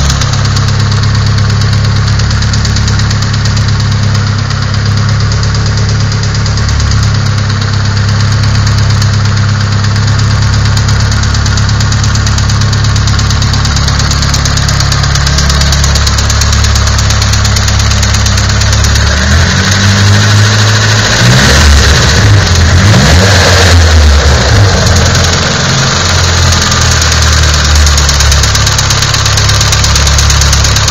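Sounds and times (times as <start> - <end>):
engine idling with knocking: 0.0 - 30.9
engine revving: 0.0 - 30.9.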